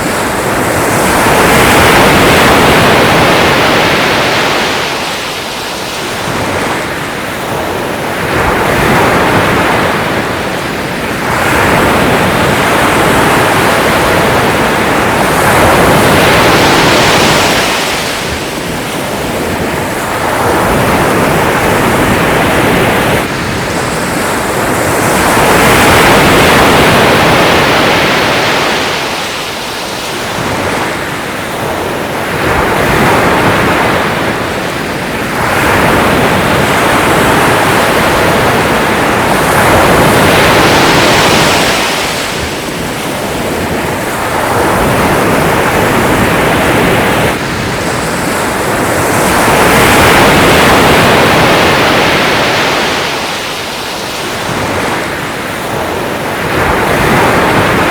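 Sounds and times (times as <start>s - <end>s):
sea waves washing in: 0.0s - 57.9s.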